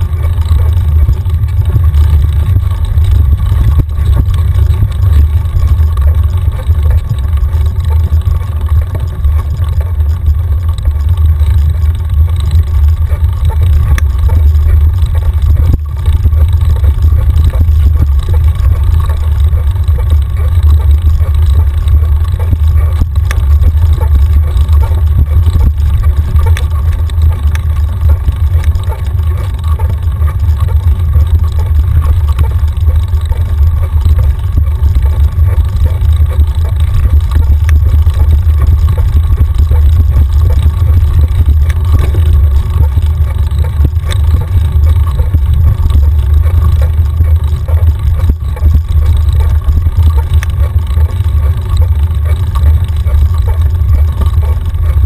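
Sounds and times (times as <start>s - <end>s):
bike rattling over bumps: 0.0s - 55.0s
bike trail vibration rumble: 0.0s - 55.0s.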